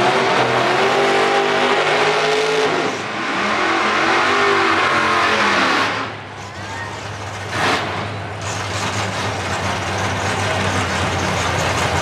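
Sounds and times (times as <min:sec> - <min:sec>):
drag car engines revving: 0:00.0 - 0:12.0.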